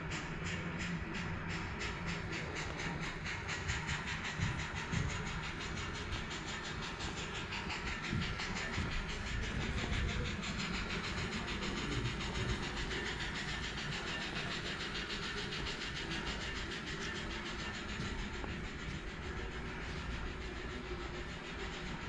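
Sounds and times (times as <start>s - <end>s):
model train running: 0.0s - 22.0s.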